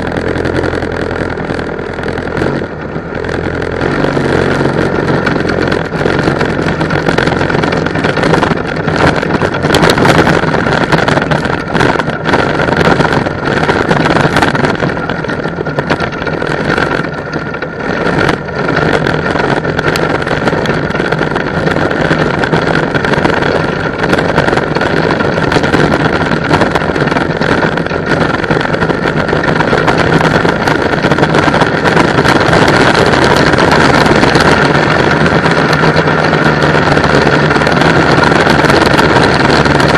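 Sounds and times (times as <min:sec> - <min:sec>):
go-kart engine running: 0:00.0 - 0:39.9
wind buffeting microphone: 0:00.0 - 0:39.9.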